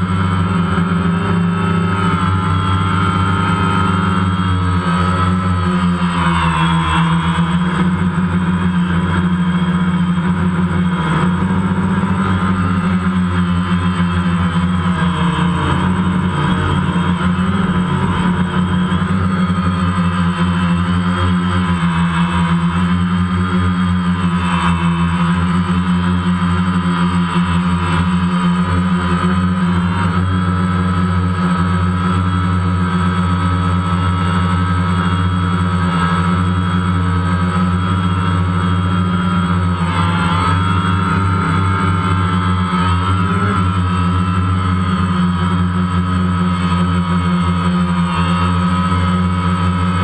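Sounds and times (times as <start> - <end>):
drone propellers buzzing: 0.0 - 50.0.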